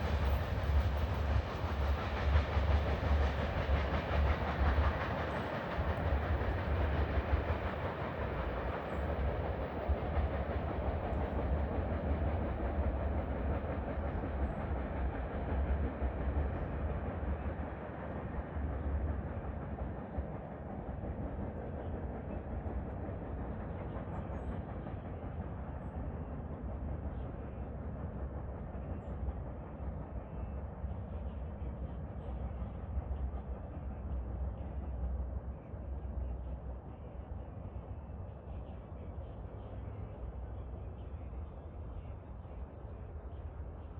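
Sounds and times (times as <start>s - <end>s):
train passing rumble: 0.0s - 43.9s.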